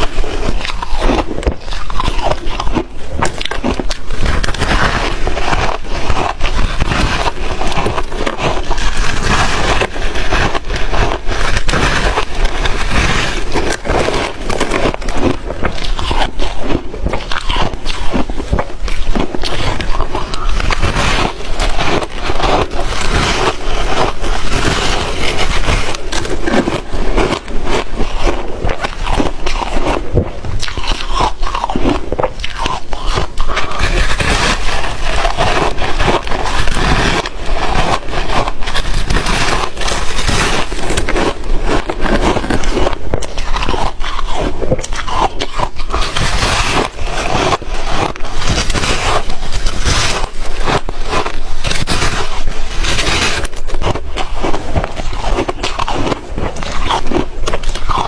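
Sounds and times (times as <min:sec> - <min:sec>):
ice cubes crunching in mouth: 0:00.0 - 0:58.0.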